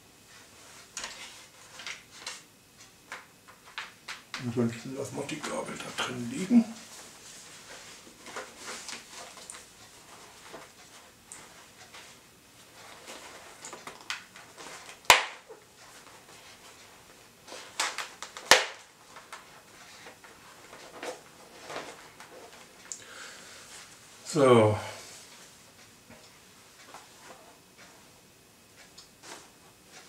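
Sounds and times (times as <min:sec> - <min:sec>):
soft rustles: 0:04.4 - 0:15.0, 0:15.6 - 0:30.0.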